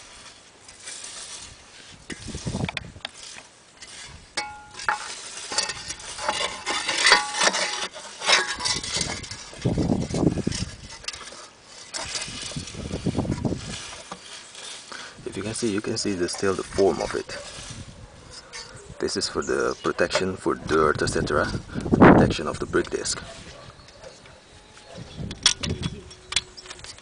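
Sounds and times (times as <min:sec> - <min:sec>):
metal scraping and rattling: 0:00.0 - 0:24.1.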